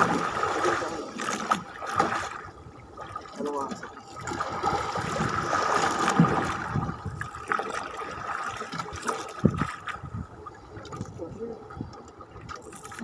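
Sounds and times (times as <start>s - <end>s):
water splashing against boat hull: 0.0s - 13.0s.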